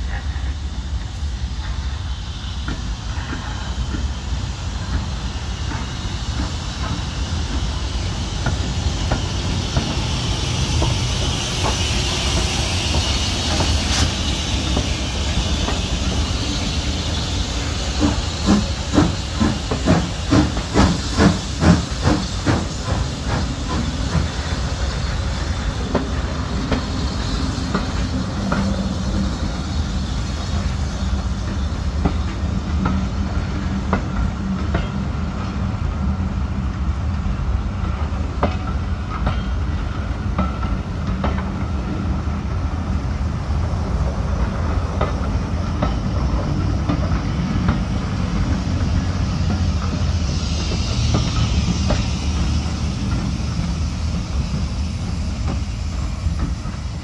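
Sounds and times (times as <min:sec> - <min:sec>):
steam locomotive hiss: 0:00.0 - 0:57.0
train coaches rolling past: 0:00.0 - 0:57.0.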